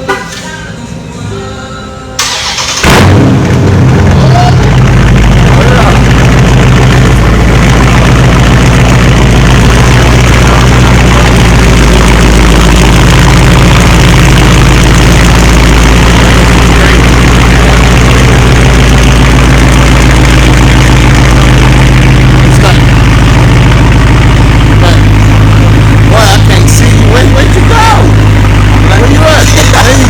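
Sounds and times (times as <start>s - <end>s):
loud car engine idling: 2.2s - 30.0s.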